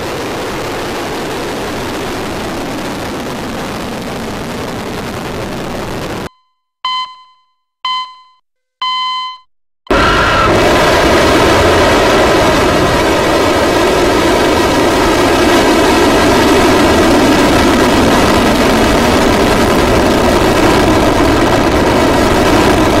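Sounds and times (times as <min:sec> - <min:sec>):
rocket engines firing: 0:00.0 - 0:06.3, 0:09.9 - 0:23.0.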